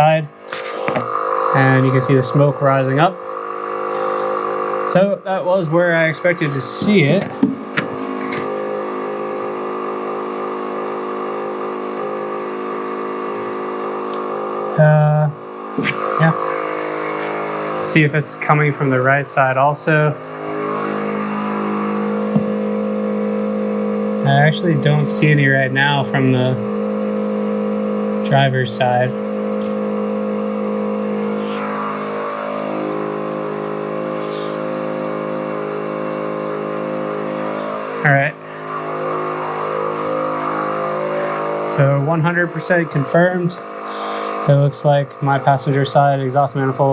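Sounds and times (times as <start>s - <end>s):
air compressor humming: 0.0s - 46.9s.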